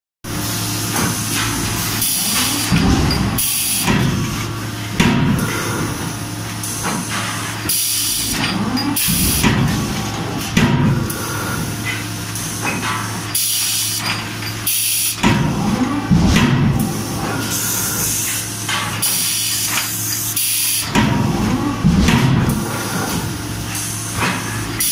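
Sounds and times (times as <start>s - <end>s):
low machine hum: 0.3s - 24.9s.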